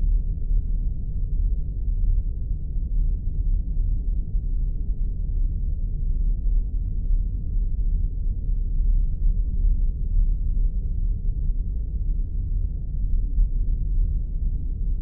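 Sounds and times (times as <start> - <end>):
deep spaceship rumble: 0.0 - 15.0.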